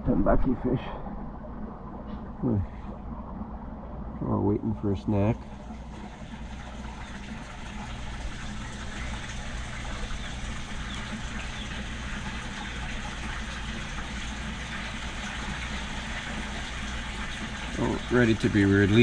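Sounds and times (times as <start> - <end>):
water pump humming: 0.1 - 19.0.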